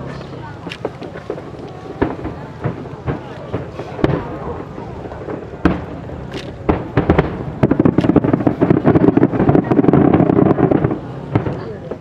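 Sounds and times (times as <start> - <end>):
fireworks bangs: 0.0 - 12.0
rapid crackling fireworks: 0.0 - 12.0.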